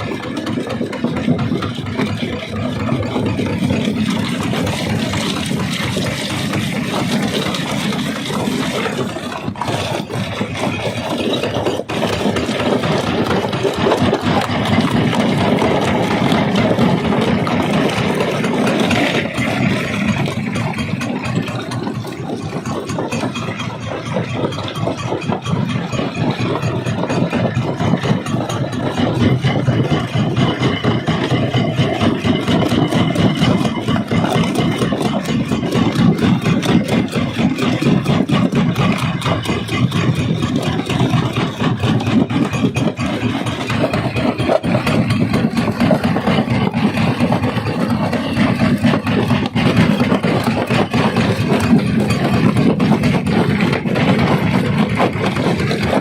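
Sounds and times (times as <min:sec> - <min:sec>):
clatter of stone: 0:00.0 - 0:56.0
rock crusher mechanical drone: 0:00.0 - 0:56.0.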